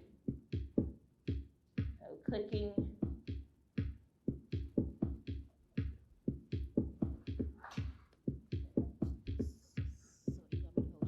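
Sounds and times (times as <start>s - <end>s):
drum machine kick drum beat: 0.0s - 11.0s.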